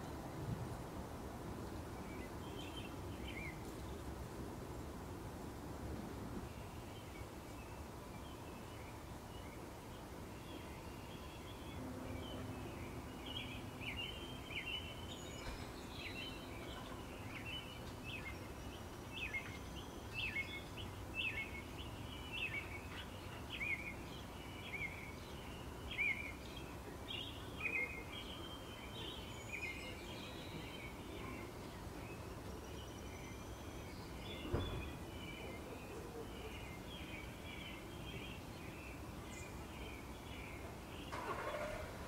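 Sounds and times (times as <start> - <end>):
low background noise: 0.0 - 42.0
small birds chirping: 6.4 - 42.0.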